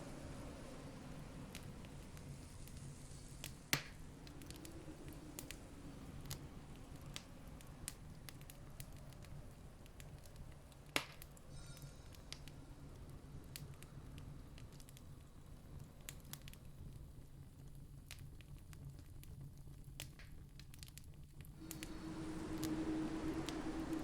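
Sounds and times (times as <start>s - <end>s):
campfire crackling: 0.0s - 24.0s
low steady rumble: 0.0s - 24.0s.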